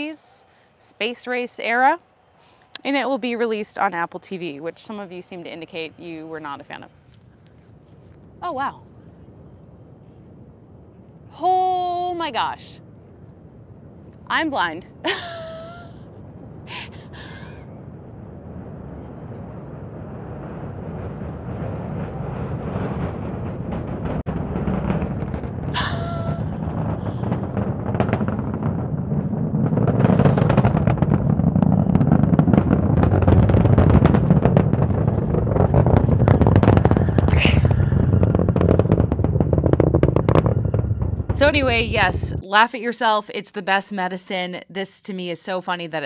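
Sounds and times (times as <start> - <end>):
low rumble of rocket launch: 4.4 - 42.5.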